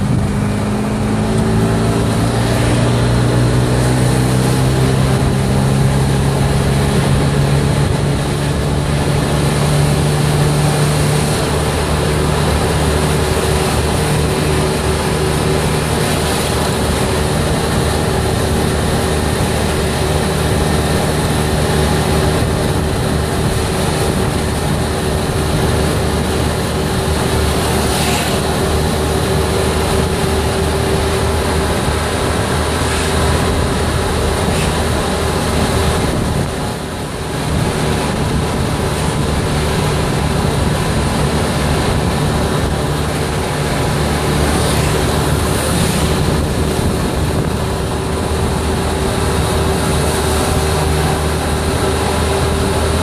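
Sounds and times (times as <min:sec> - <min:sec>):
golf cart motor drone: 0:00.0 - 0:53.0
road and wind noise: 0:00.0 - 0:53.0.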